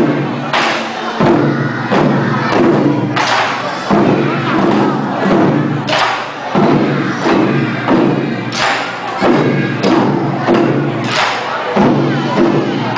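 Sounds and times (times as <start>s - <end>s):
barrel drum struck with sticks: 0.0s - 12.9s.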